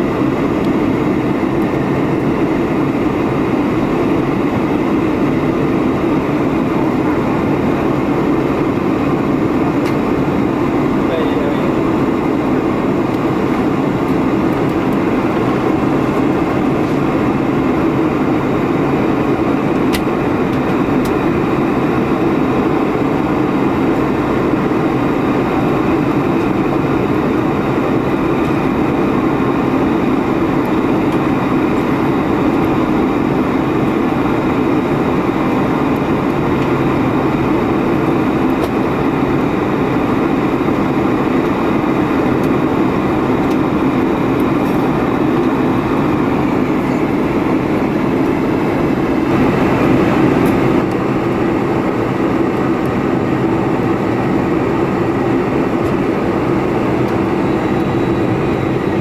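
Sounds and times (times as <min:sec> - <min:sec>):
airliner cabin engine and airflow noise: 0:00.0 - 0:59.0.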